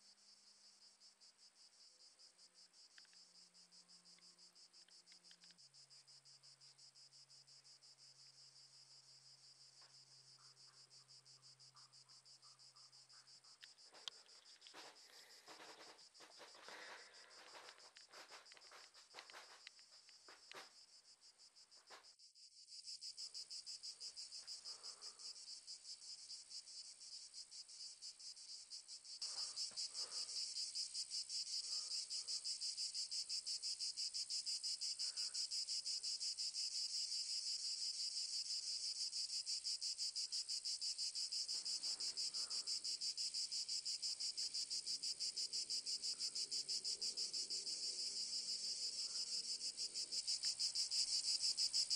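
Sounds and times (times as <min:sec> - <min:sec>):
insects chirring: 0:02.5 - 0:51.9.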